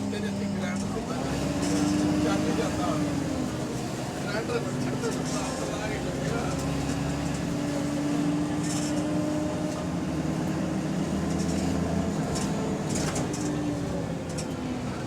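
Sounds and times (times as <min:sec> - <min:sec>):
bus diesel engine droning: 0:00.0 - 0:15.0.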